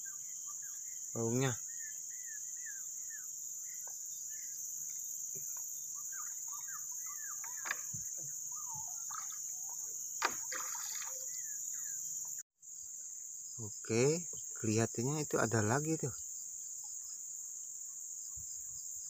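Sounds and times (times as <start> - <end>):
bird chirps: 0.0 - 19.0
insects droning: 0.0 - 19.0.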